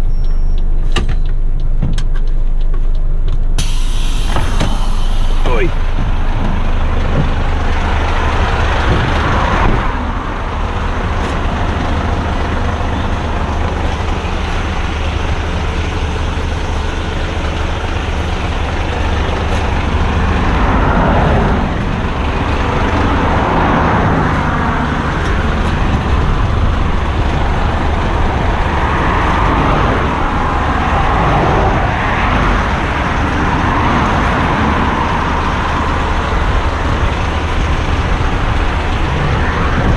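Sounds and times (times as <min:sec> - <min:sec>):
truck diesel engine idling: 0:00.0 - 0:39.9
cars passing on wet road: 0:03.6 - 0:39.9.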